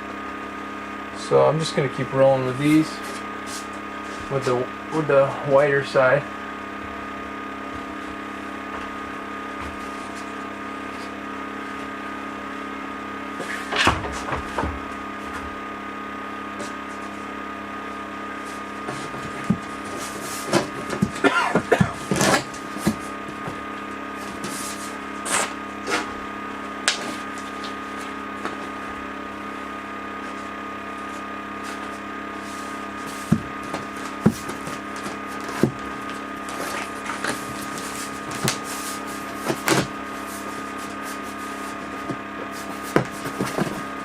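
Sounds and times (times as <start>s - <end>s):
motor humming: 0.0s - 44.0s.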